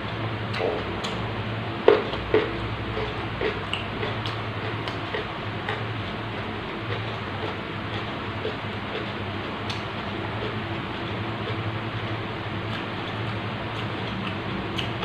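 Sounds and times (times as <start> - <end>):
person chewing crunchy vegetables: 1.8 - 15.0.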